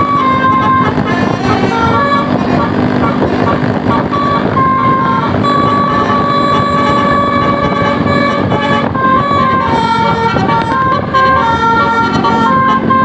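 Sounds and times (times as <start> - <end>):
musical bus horn playing a tune: 0.0 - 13.0.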